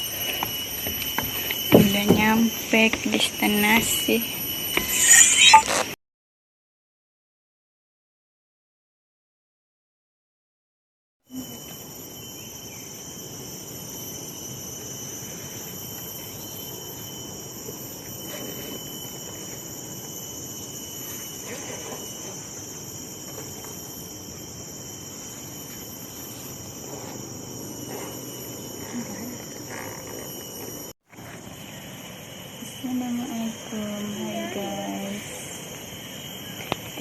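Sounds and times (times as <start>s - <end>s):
insects buzzing: 0.0s - 6.0s, 11.3s - 37.0s.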